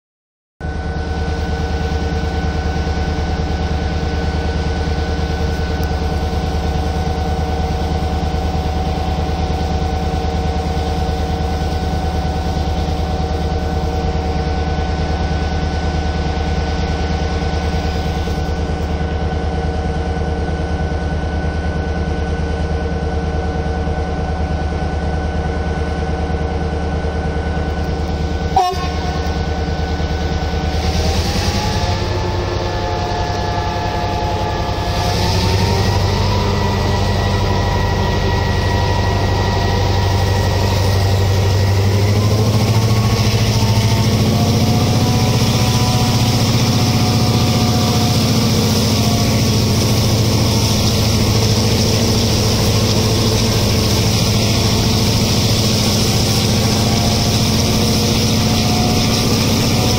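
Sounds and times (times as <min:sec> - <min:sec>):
locomotive engine humming: 0:00.6 - 0:59.9.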